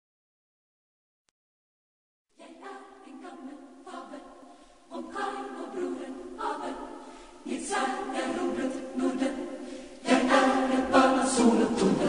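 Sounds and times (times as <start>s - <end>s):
choir singing: 2.3s - 12.0s.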